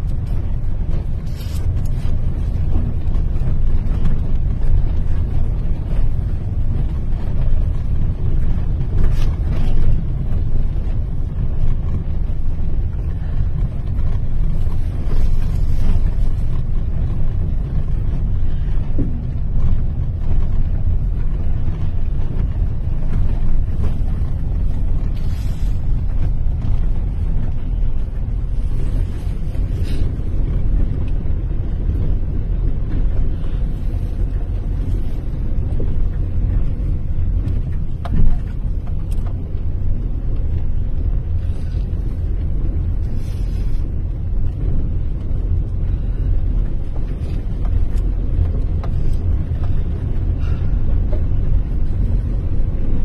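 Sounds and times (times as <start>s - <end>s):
car engine and tyre noise: 0.0s - 53.0s
wind buffeting microphone: 0.0s - 53.0s.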